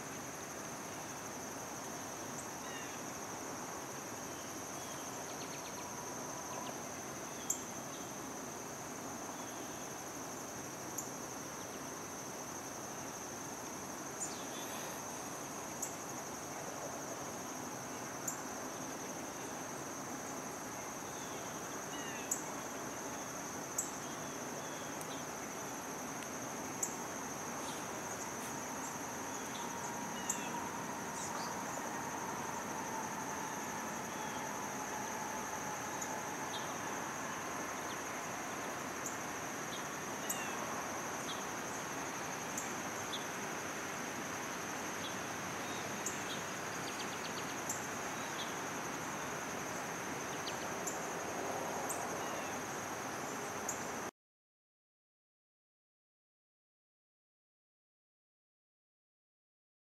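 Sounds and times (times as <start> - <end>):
insects trilling: 0.0 - 54.1.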